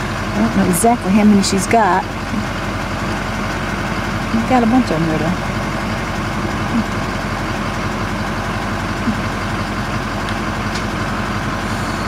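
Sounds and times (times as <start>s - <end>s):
engine idling from inside cab: 0.0s - 12.0s.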